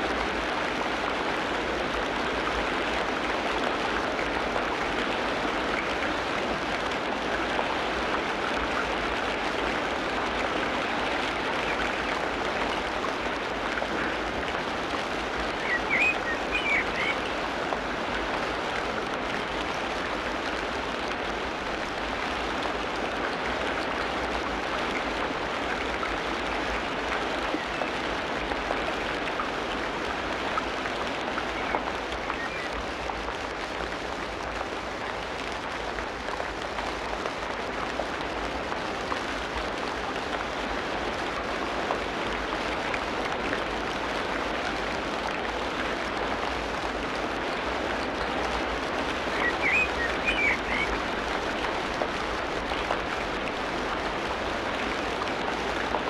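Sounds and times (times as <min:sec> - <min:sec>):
rain falling on foliage: 0:00.0 - 0:56.0.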